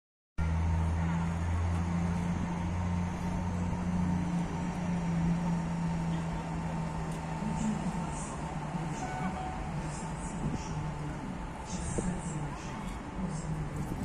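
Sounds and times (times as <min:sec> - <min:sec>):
electric locomotive humming: 0:00.4 - 0:14.0.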